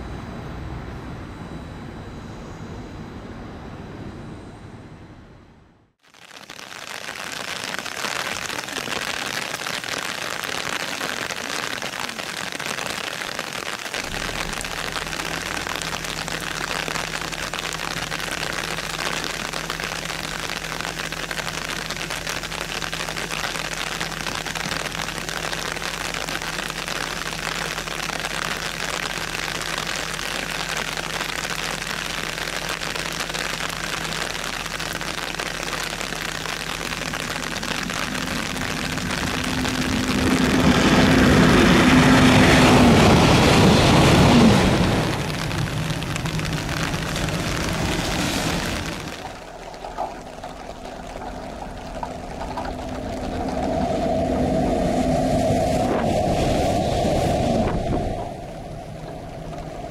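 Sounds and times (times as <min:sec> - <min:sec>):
steady low hum: 0:00.0 - 0:06.0, 0:14.0 - 0:59.9
heavy rain falling: 0:06.0 - 0:59.9.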